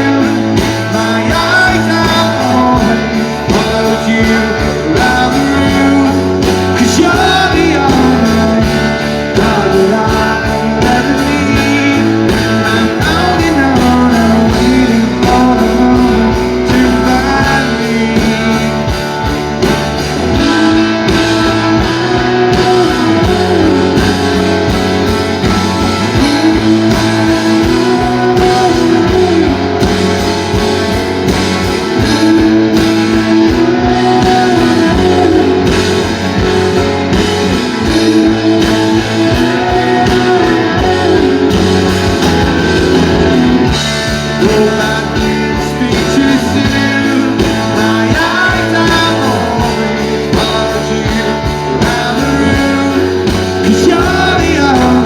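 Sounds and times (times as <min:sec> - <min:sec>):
drum kit: 0:00.0 - 0:55.0
person singing lead vocal: 0:00.0 - 0:55.0
strummed guitars: 0:00.0 - 0:55.0.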